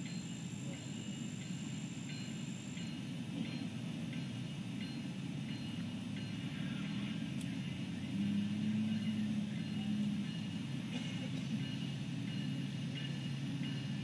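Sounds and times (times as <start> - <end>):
diesel locomotive rumble: 0.0 - 14.0
locomotive humming tone: 0.0 - 14.0.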